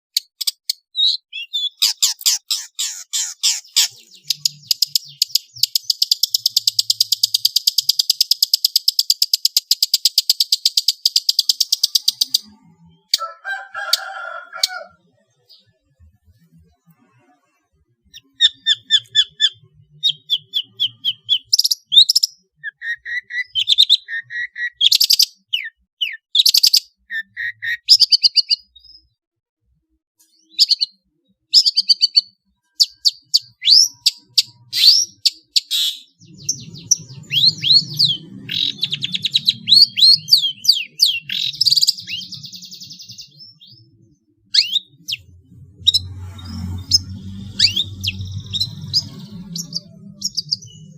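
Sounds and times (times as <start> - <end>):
bird singing chirps and trills: 0.1 - 14.0, 15.0 - 29.2, 30.2 - 50.9.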